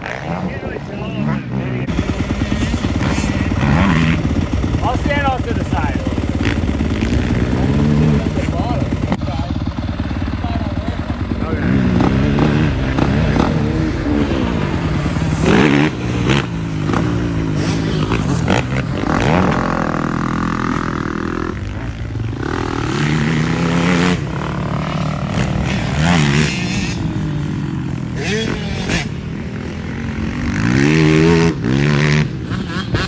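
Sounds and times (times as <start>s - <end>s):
quad bike engine revving: 0.0s - 33.0s.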